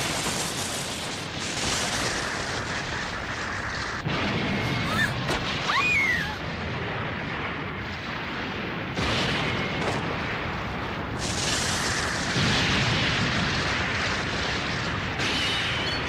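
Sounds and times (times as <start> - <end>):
explosion-like rumbling roar: 1.1 - 16.0.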